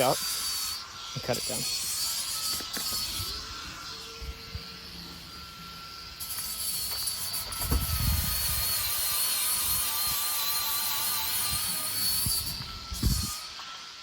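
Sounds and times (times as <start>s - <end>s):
power tool whining: 0.0s - 14.0s.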